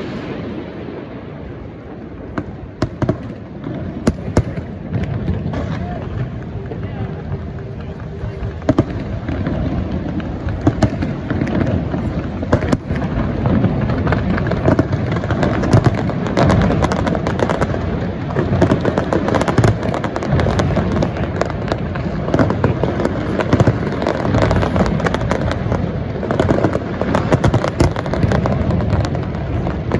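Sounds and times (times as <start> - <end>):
fireworks crackling and popping: 0.0 - 29.9
fireworks sharp bangs: 0.0 - 29.9
low rumble of bursts: 0.0 - 29.9.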